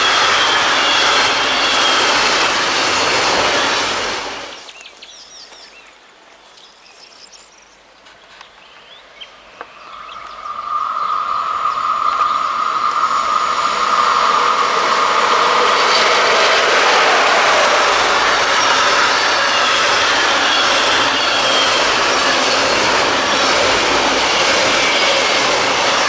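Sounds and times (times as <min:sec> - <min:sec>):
high tone from rails: 0:00.0 - 0:04.6, 0:09.7 - 0:26.0
train rushing noise: 0:00.0 - 0:04.7, 0:09.7 - 0:26.0.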